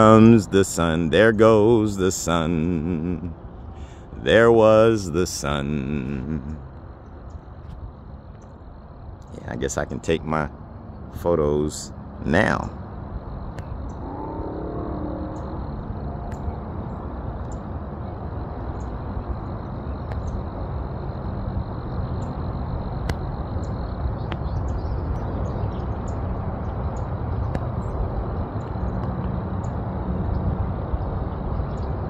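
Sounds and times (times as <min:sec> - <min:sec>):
faint high whine: 0:00.0 - 0:32.0
low outdoor rumble: 0:00.0 - 0:32.0.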